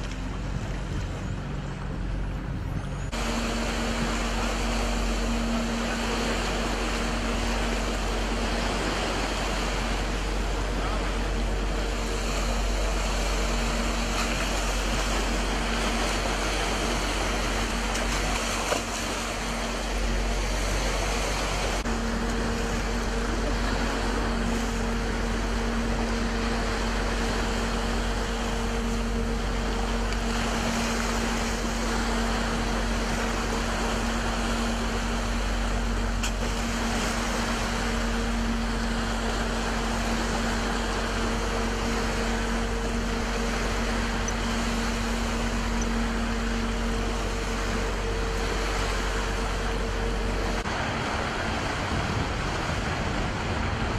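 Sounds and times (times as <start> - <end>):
boat engine hum: 0.0 - 53.9
water rushing along hull: 0.0 - 53.9.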